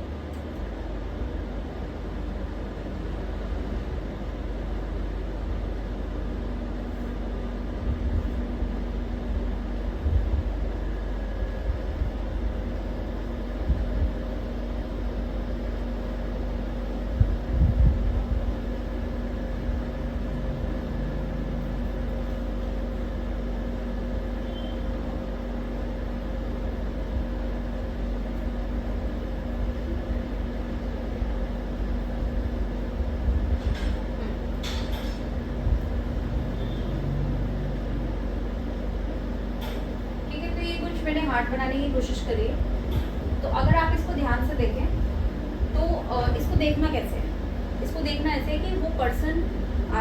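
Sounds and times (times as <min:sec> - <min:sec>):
mechanical hum: 0:00.0 - 0:50.0.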